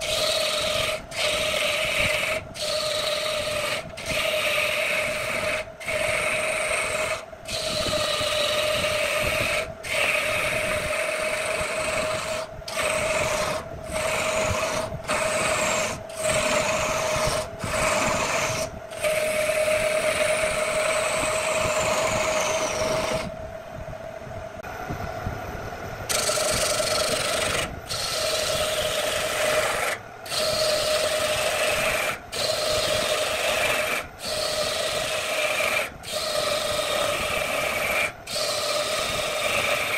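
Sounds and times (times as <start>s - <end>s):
gouge scraping spinning wood: 0.0s - 23.4s, 26.1s - 39.9s
lathe humming: 0.0s - 23.4s, 26.1s - 39.9s.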